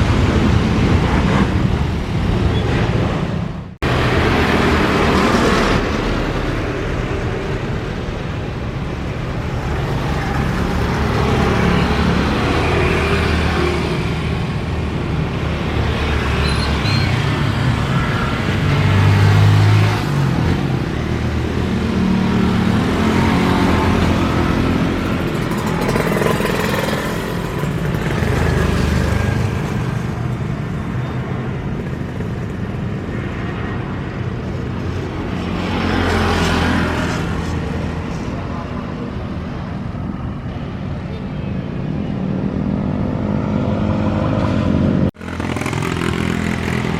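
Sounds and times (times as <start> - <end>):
vehicle engines rumbling: 0.0 - 46.9.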